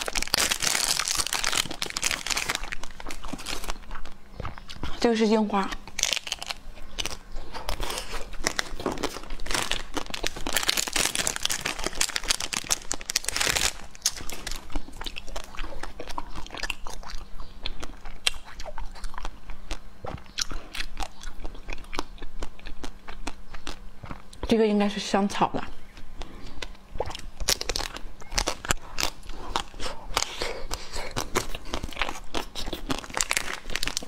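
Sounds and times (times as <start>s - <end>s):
crackling bites of ice cream shell: 0.0s - 5.0s, 5.7s - 24.4s, 25.9s - 34.0s
chewing: 0.0s - 5.1s, 5.7s - 24.5s, 25.9s - 34.0s.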